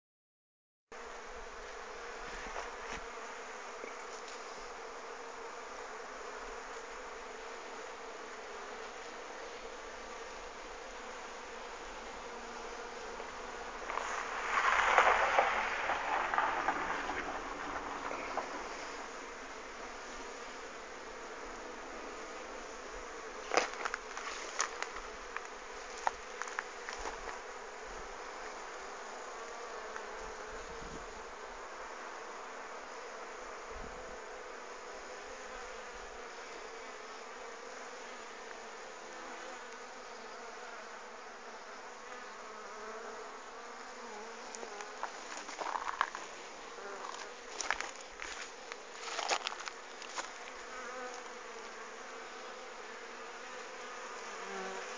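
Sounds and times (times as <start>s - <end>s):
honeybees buzzing: 1.0s - 54.9s.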